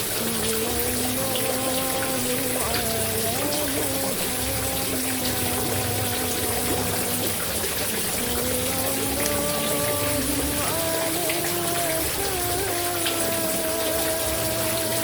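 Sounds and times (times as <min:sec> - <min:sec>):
person chanting: 0:00.0 - 0:15.0
rushing water: 0:00.0 - 0:15.0.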